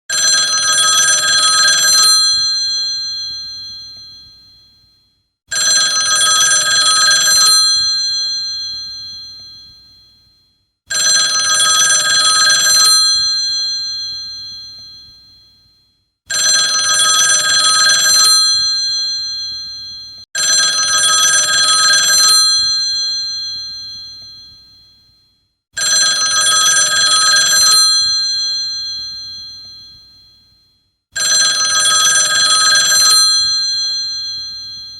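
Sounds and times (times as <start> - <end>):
telephone bell ringing: 0.1 - 4.9, 5.5 - 10.3, 10.9 - 15.7, 16.3 - 25.0, 25.8 - 30.5, 31.2 - 34.9.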